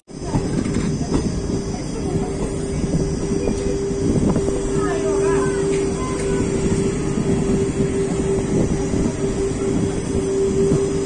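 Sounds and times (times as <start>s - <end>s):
constant high hum: 0.1s - 11.0s
train wheels rumbling on track: 0.1s - 11.0s.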